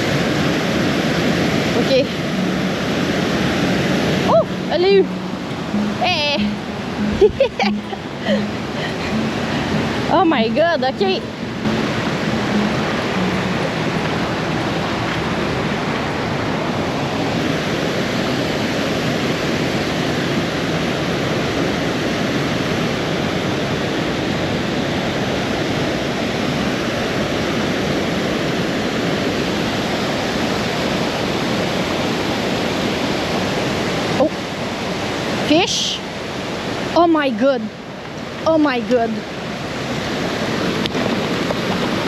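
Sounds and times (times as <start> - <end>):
stream water running over rocks: 0.0 - 42.0.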